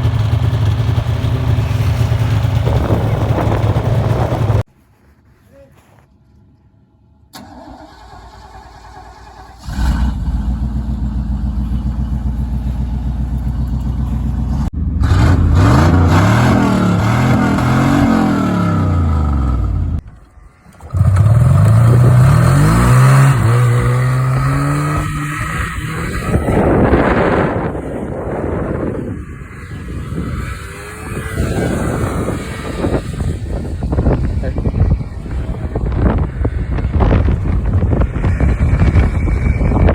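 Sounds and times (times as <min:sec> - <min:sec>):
snowmobile engine revving: 0:00.0 - 0:04.7, 0:07.4 - 0:20.0, 0:20.7 - 0:39.9.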